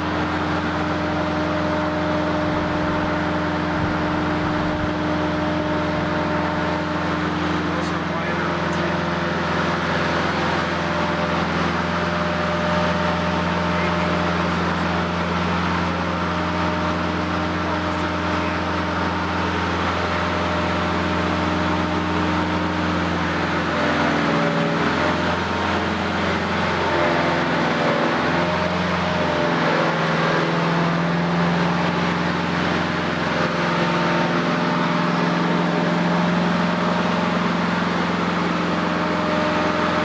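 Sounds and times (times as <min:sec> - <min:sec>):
machinery drone with tones: 0:00.0 - 0:40.0.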